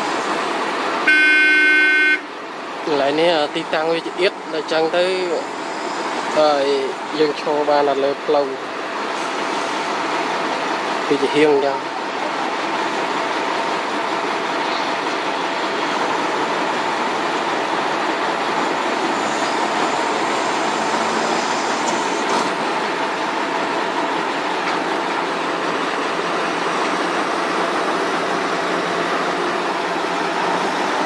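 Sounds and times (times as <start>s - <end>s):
diesel engines rumbling: 0.0s - 31.0s.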